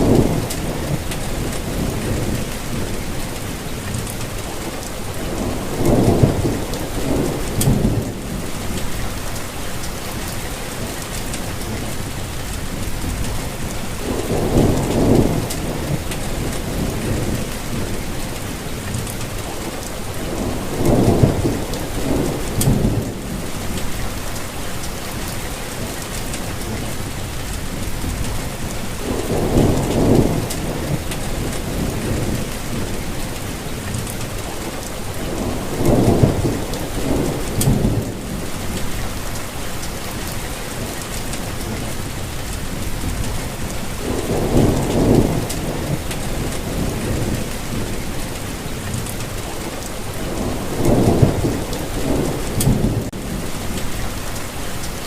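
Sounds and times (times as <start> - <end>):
steady rainfall: 0.0 - 55.0
thunder rumbling: 0.0 - 55.0.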